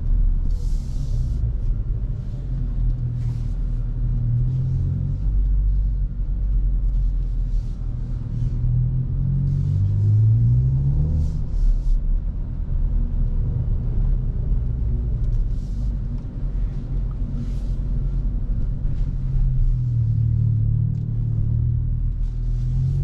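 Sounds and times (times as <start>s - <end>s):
car engine and exhaust droning: 0.0s - 23.0s
deep road rumble: 0.0s - 23.0s.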